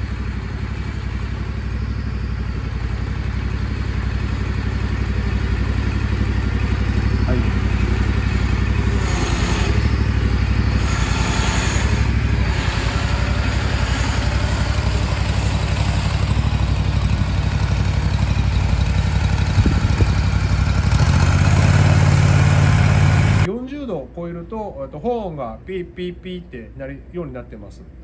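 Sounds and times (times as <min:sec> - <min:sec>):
mower engine running: 0:00.0 - 0:23.5.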